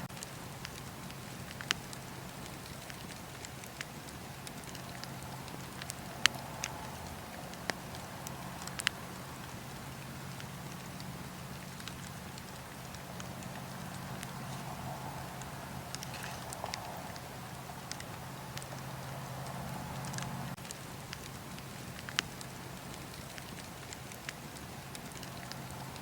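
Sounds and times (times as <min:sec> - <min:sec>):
fire popping and crackling: 0:00.0 - 0:26.0
wood fire hissing: 0:00.0 - 0:26.0.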